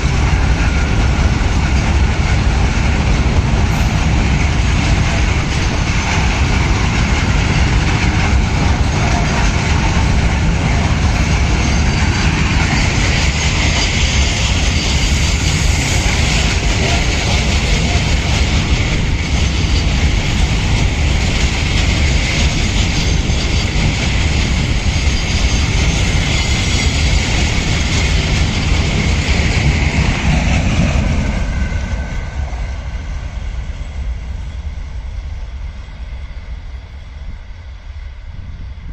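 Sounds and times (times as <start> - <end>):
train wheels on track: 0.0 - 38.9.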